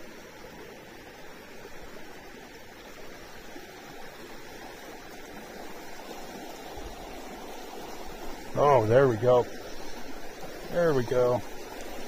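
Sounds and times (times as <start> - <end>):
river rushing over cobbles: 0.0 - 12.0.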